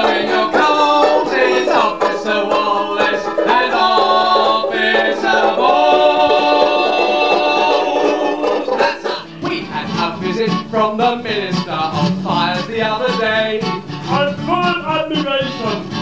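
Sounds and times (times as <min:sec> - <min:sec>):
men singing in harmony: 0:00.0 - 0:16.0
strummed strings: 0:00.0 - 0:16.0.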